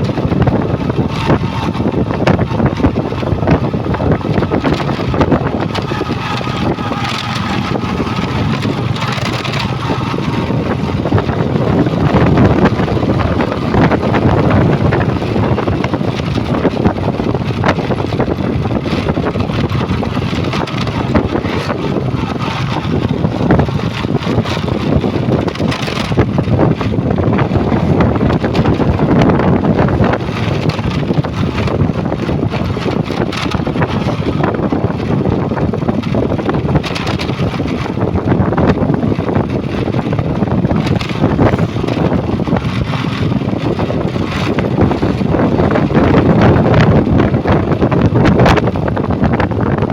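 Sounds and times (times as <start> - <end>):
truck engines running: 0.0 - 49.9
wind noise on microphone: 0.0 - 49.9.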